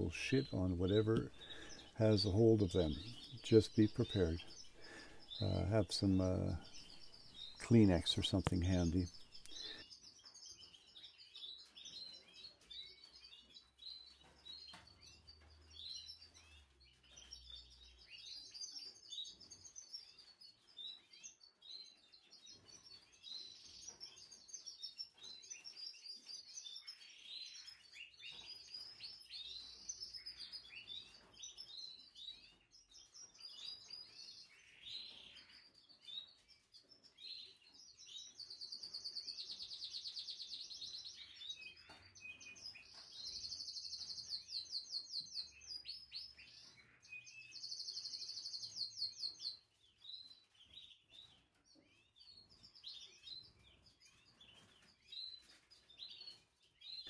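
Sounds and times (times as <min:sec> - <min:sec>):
canaries chirping and singing: 0:00.0 - 0:57.0.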